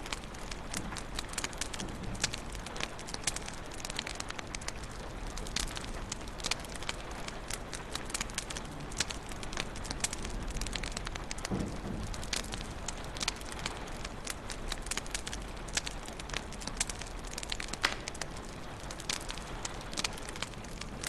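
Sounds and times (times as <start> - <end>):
low rush of flame: 0.0 - 21.0
wood fire popping and snapping: 0.0 - 21.0.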